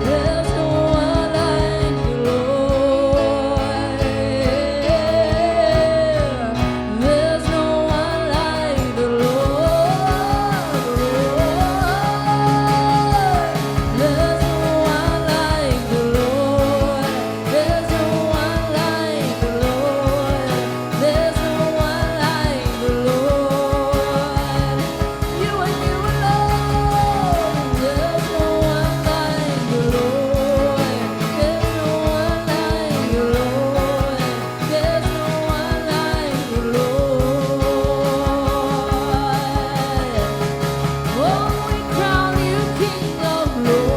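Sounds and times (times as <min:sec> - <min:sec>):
live worship band playing: 0:00.0 - 0:43.9
steady drum beat: 0:00.0 - 0:43.9.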